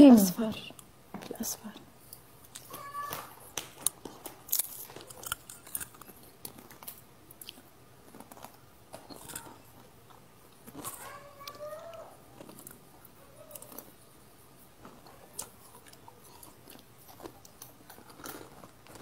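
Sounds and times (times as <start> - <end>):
snack crunching and chewing: 3.5 - 19.0.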